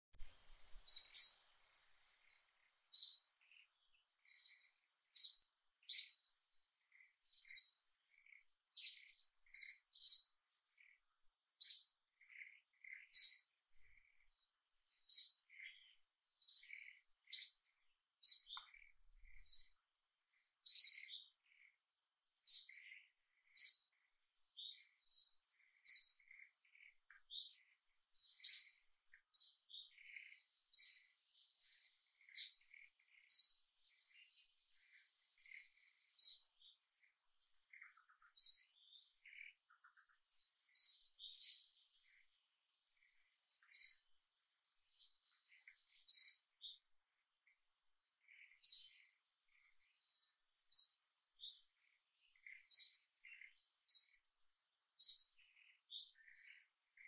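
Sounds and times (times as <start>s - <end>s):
small bird chirping: 0.0s - 57.0s.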